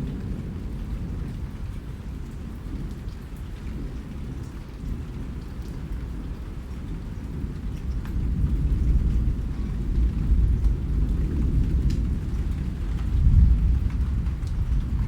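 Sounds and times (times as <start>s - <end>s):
steady rain: 0.0s - 15.0s
rain drop ticks: 2.2s - 15.0s.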